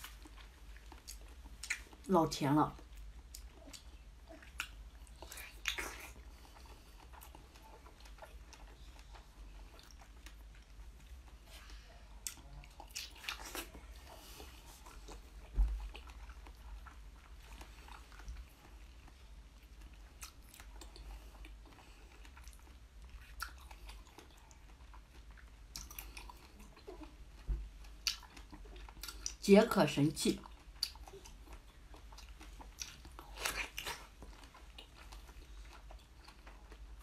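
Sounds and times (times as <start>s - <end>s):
chewing jelly wet mouth sounds: 0.0s - 2.1s, 2.7s - 29.5s, 30.2s - 37.0s.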